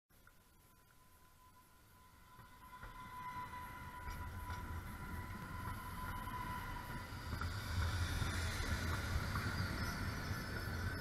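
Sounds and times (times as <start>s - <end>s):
light-rail train whine and rumble: 0.1s - 11.0s.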